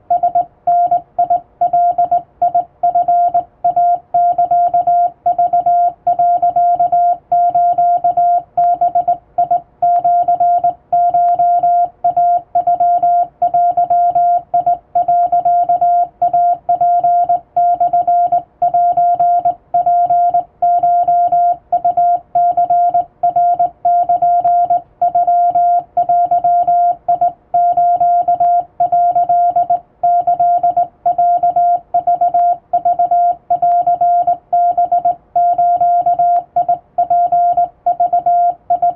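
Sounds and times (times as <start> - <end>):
morse code beeps: 0.1 - 38.9.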